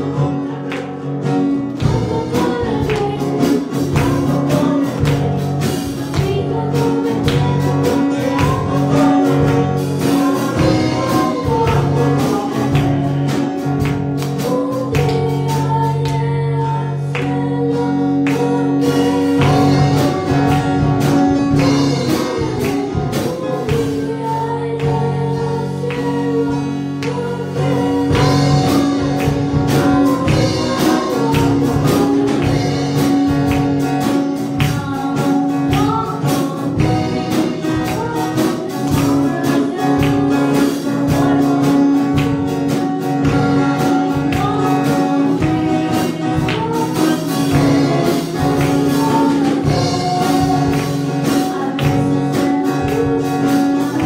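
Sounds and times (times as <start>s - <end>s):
instrumental backing with beat: 0.0s - 54.0s
worship song singing: 0.0s - 54.0s.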